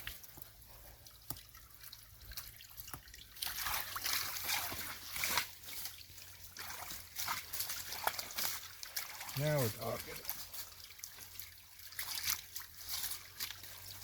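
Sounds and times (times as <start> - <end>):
hands clearing debris in water: 0.0 - 14.0
spring water trickling and splashing: 0.0 - 14.0.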